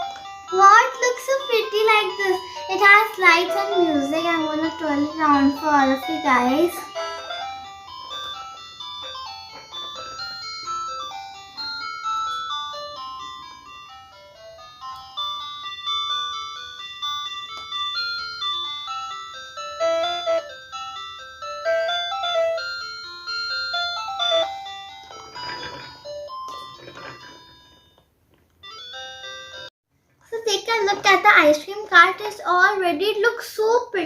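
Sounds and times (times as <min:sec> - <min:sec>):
electronic beeping ice cream melody: 0:00.0 - 0:28.0.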